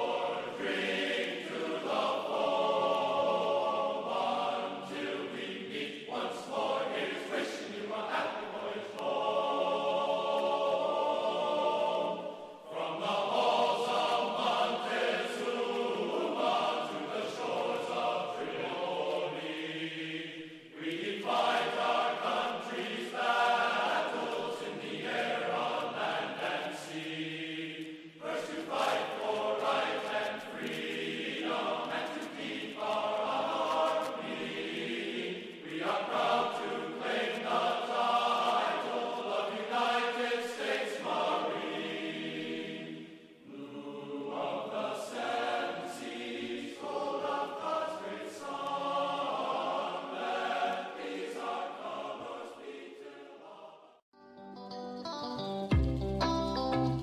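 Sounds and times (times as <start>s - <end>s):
choir singing sustained phrases: 0.0s - 54.1s.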